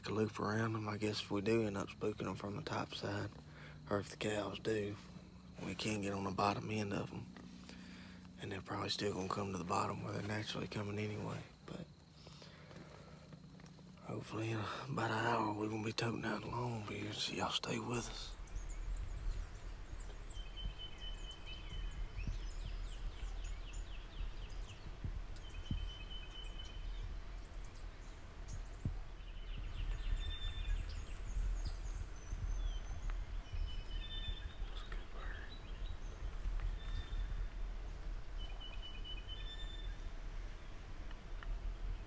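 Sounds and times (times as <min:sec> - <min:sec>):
songbirds chirping and trilling: 0:00.0 - 0:42.0
steady low rumble: 0:00.0 - 0:42.0.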